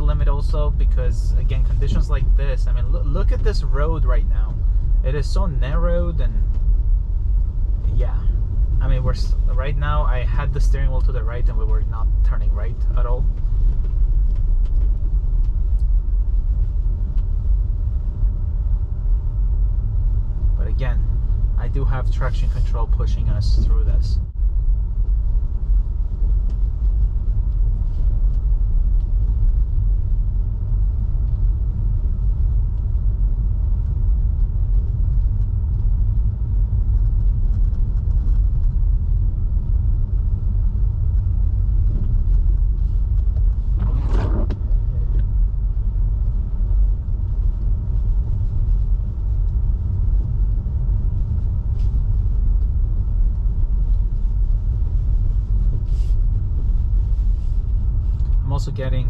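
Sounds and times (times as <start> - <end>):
tyres rumbling on snowy road: 0.0 - 59.0.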